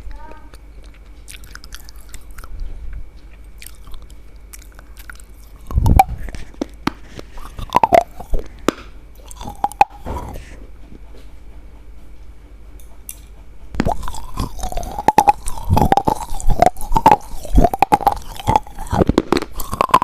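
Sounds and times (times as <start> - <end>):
chewing crunchy food: 0.0 - 10.6, 13.1 - 20.0
low hum: 0.0 - 20.0.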